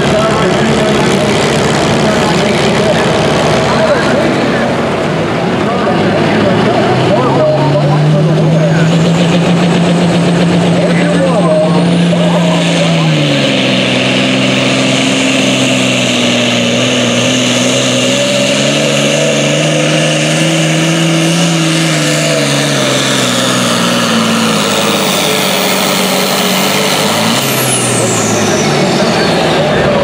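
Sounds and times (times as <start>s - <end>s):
diesel tractor engine under load: 0.0s - 30.0s.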